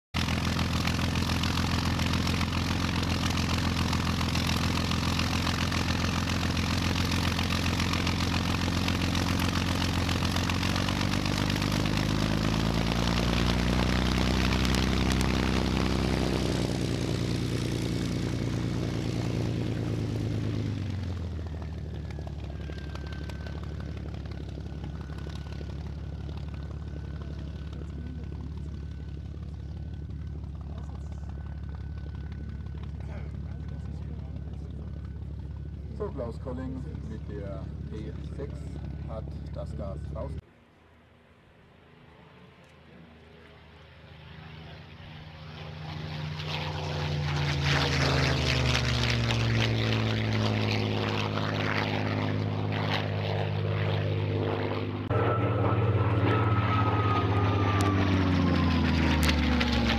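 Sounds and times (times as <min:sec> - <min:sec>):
model airplane motor and propeller: 0:00.2 - 0:40.4, 0:42.3 - 0:59.9.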